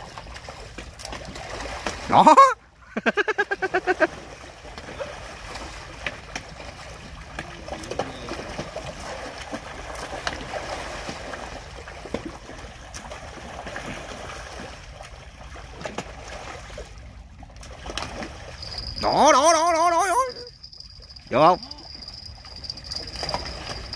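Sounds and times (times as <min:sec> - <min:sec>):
water lapping and trickling: 0:00.0 - 0:23.9.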